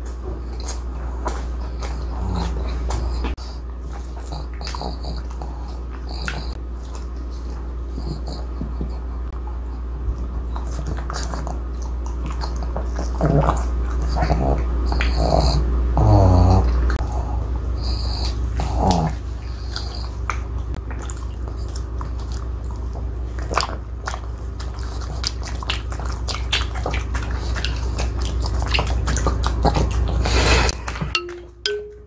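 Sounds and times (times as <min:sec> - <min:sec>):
dog chewing and smacking: 0:00.0 - 0:15.7, 0:16.4 - 0:31.2.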